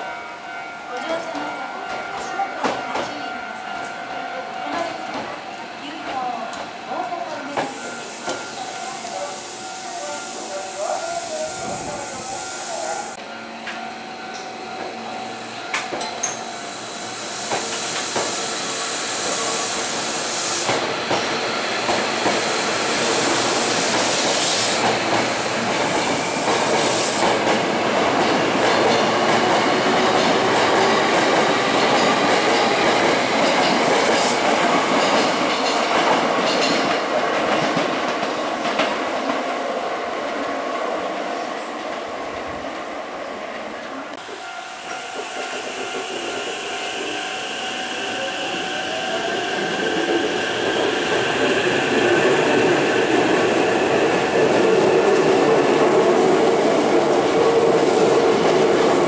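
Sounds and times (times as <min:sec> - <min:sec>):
electric train moving: 0:04.7 - 0:59.0.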